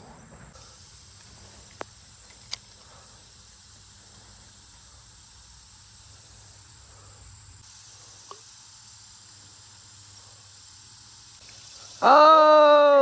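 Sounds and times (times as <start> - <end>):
insect chorus hiss: 0.0 - 13.0.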